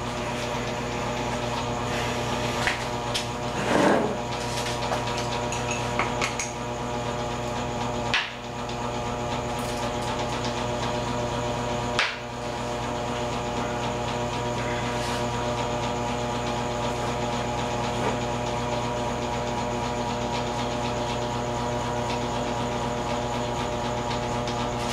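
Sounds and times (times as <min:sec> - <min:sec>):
mechanical motor hum: 0:00.0 - 0:24.9.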